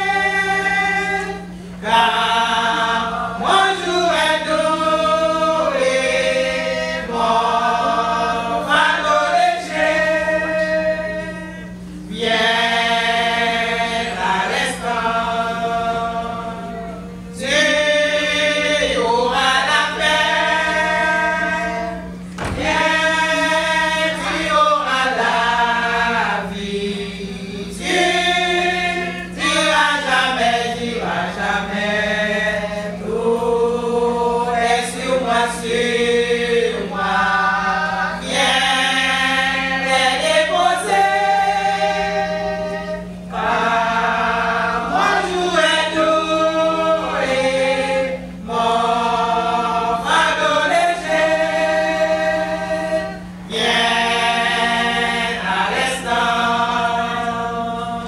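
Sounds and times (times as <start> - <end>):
steady low hum: 0.0 - 58.0
women's choir singing a cappella: 0.0 - 58.0.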